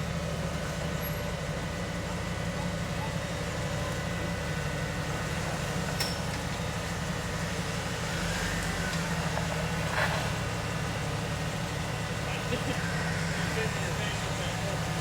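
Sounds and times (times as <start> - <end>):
car engine running: 1.5 - 15.0.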